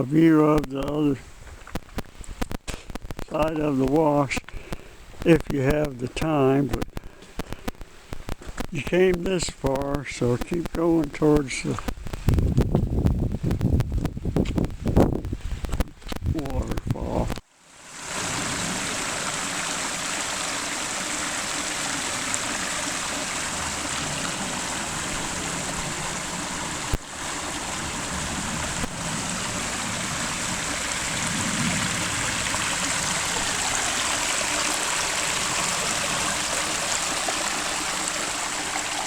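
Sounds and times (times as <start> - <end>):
creek water running over rocks: 0.0 - 39.0.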